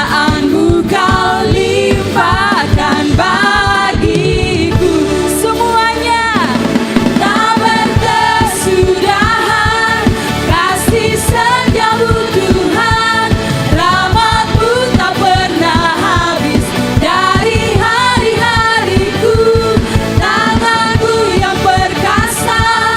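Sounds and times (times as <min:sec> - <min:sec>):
band playing steady beat: 0:00.0 - 0:22.9
singers singing praise song: 0:00.0 - 0:22.9.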